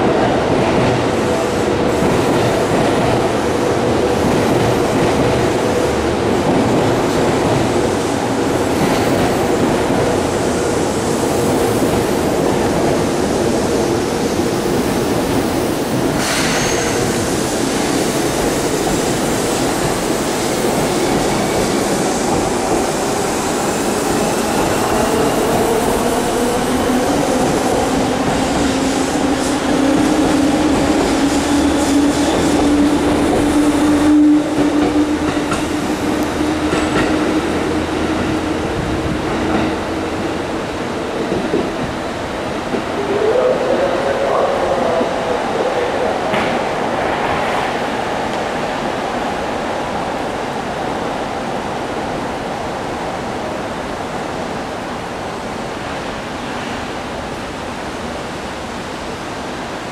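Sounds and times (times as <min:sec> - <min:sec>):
electric train rumble and hum: 0:00.0 - 0:59.9.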